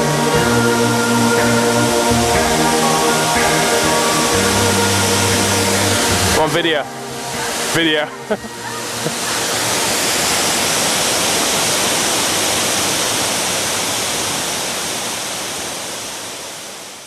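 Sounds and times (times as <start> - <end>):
waterfall rushing water: 0.0 - 17.0.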